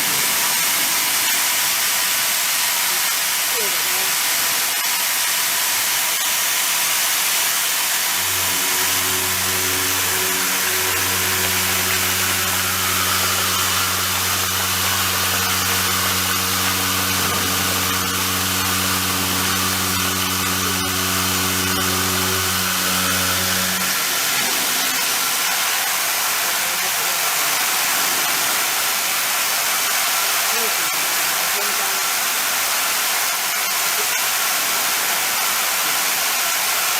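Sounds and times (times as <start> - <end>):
milling machine humming: 0.0 - 34.5.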